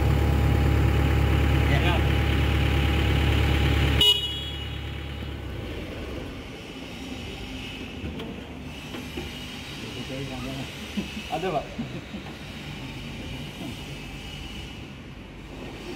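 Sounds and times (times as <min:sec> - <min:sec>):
excavator diesel engine running: 0:00.0 - 0:14.4
faint low engine hum: 0:00.0 - 0:15.9.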